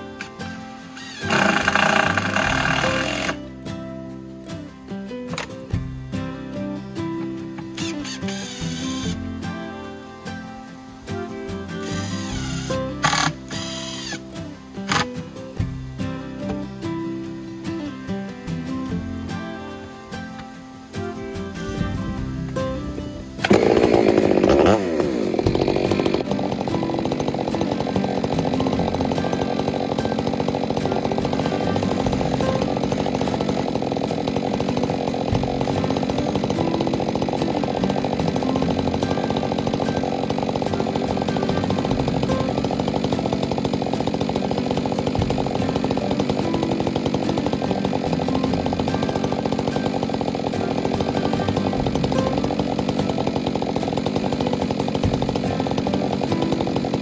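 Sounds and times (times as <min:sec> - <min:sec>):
chainsaw running: 0:00.0 - 0:57.0.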